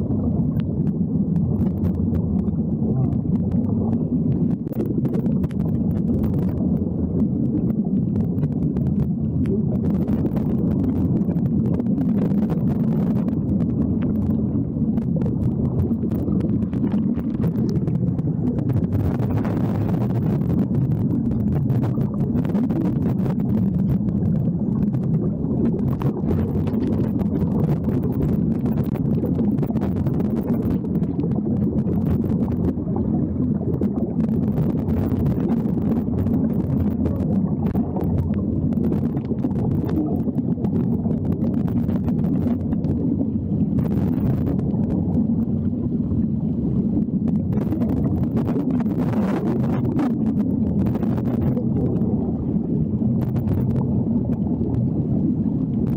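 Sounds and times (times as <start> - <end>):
underwater air bubbling hiss: 0.0 - 55.9.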